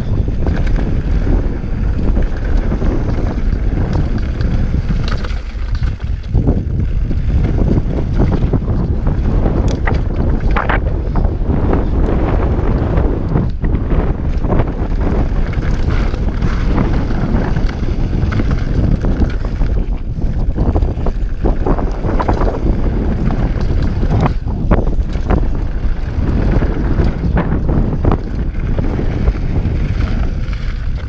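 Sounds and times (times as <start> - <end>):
bike rattling over stones: 0.0 - 31.0
wind buffeting microphone: 0.0 - 31.0
tyres crunching over gravel: 0.2 - 10.7, 12.7 - 31.0.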